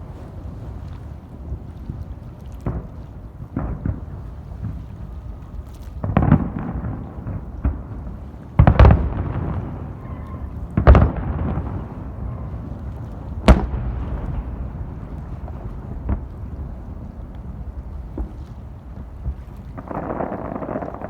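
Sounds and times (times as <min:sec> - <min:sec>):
fireworks booming: 0:01.5 - 0:21.0.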